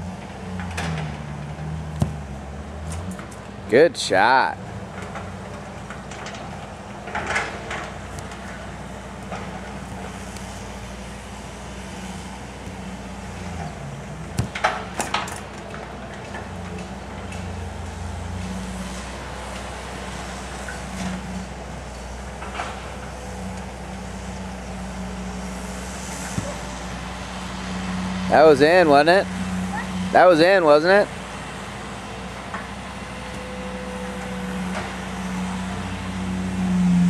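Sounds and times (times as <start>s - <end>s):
distant engine drone: 0.0s - 37.0s.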